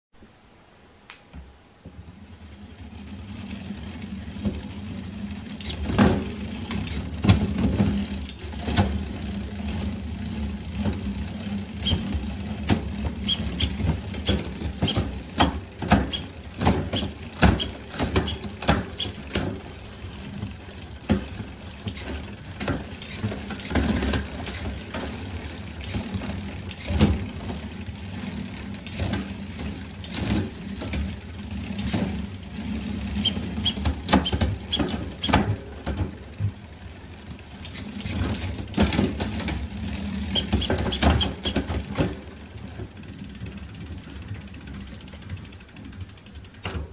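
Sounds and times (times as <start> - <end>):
bicycle chain humming: 2.1 - 46.8.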